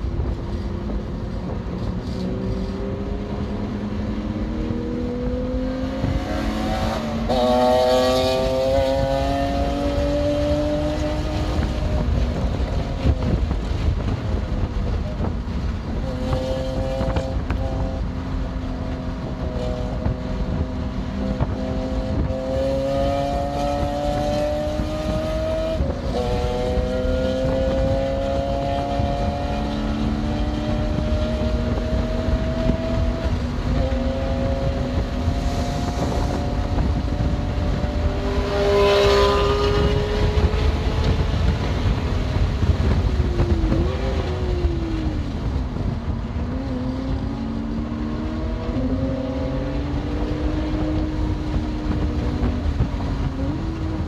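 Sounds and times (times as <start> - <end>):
car engine revving hard: 2.3 - 12.6, 18.7 - 45.5, 46.4 - 54.0.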